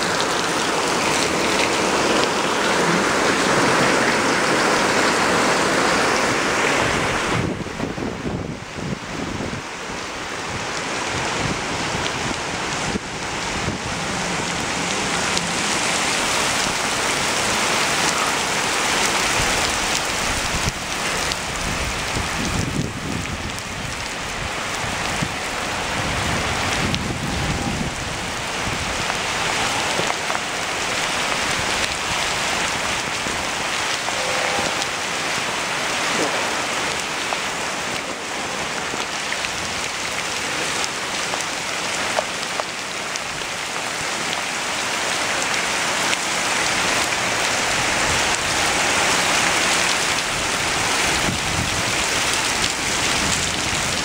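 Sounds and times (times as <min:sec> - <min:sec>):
heavy rain on pavers: 0:00.0 - 0:54.0.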